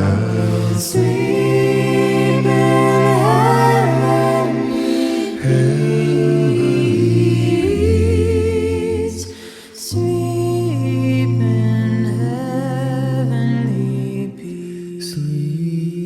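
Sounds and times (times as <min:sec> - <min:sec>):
a cappella voices singing: 0:00.0 - 0:16.0.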